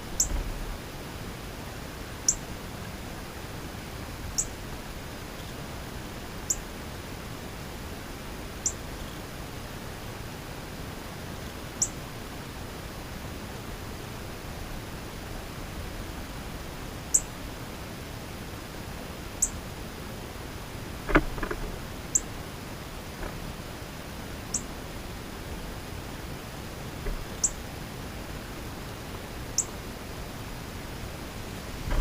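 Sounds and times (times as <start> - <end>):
background hiss: 0.0 - 32.0.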